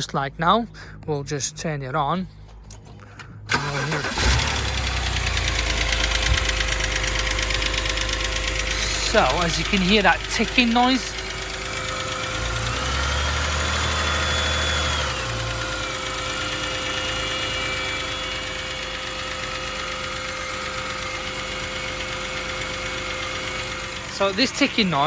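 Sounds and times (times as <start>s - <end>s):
petrol engine idling: 2.3s - 25.0s
engine ticking noise: 2.4s - 25.0s.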